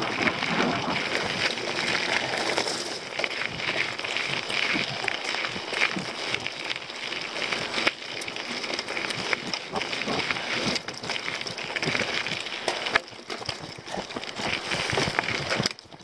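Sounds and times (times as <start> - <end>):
bike rattling over stones: 0.0 - 16.0.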